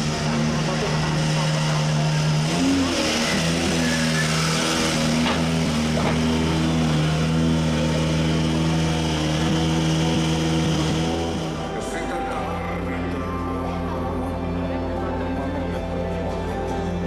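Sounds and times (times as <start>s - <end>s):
rally car engine running: 0.0s - 17.0s.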